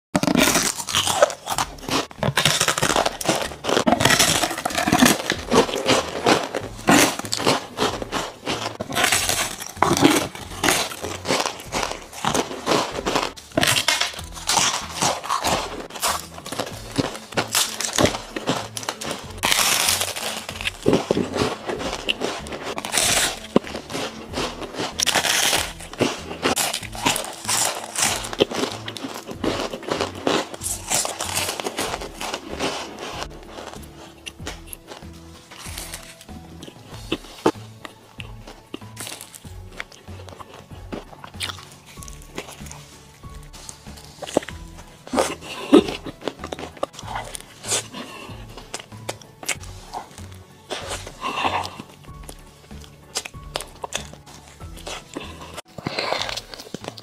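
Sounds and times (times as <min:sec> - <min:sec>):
crispy food crunching: 0:00.2 - 0:57.0.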